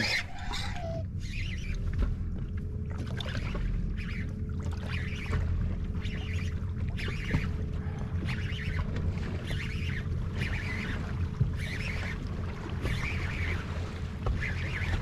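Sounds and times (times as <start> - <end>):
faint steady hum: 0.0 - 15.0
water rumbling around boat: 0.0 - 15.0
wind: 0.0 - 15.0.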